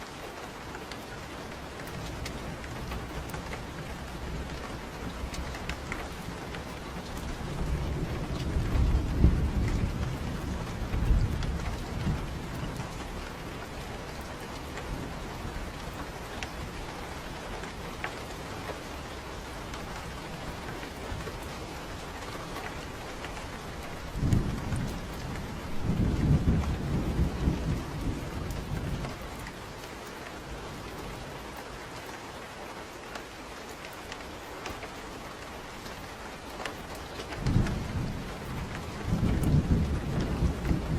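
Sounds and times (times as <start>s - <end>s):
steady rain: 0.0s - 40.9s
thunder rumbling: 1.5s - 31.6s, 35.3s - 40.9s.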